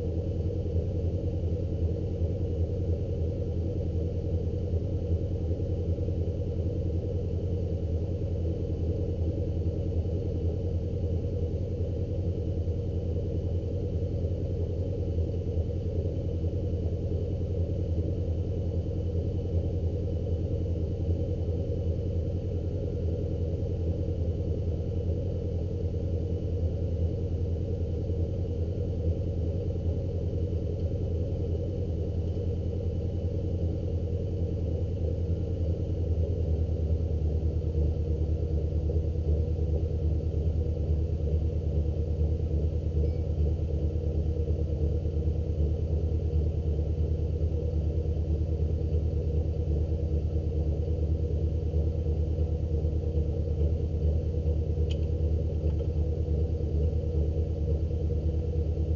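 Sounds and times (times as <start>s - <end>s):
engine idling: 0.0s - 58.9s.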